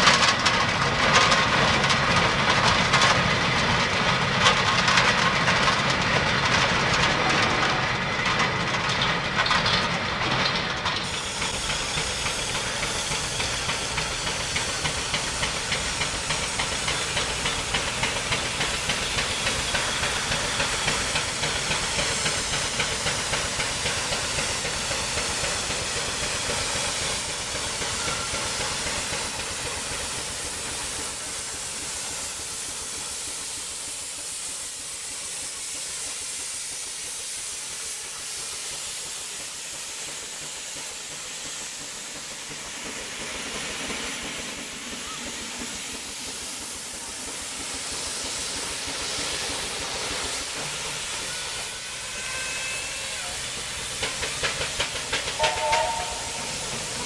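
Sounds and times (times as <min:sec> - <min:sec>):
steam roller running: 0:00.0 - 0:57.0
steam traction engine exhaust beat: 0:00.0 - 0:57.0.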